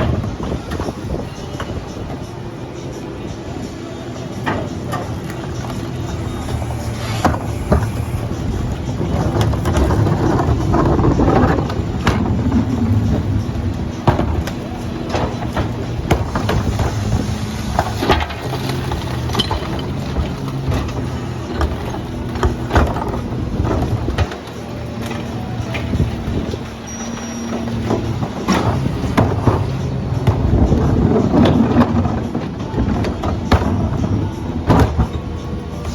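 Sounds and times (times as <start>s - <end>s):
garbage truck engine running: 0.0s - 35.9s
metal clanks and knocks: 0.0s - 35.9s.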